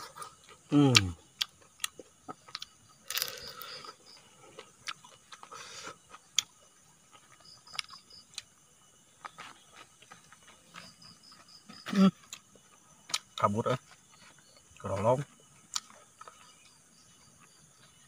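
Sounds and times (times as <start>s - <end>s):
person chewing and crunching: 0.0s - 18.0s.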